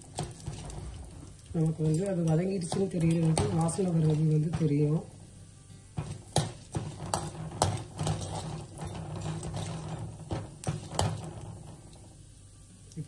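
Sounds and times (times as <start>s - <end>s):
grains rattling: 0.0s - 12.3s
spatula scraping lentils in pan: 0.0s - 12.3s
steady low hum: 0.0s - 13.0s.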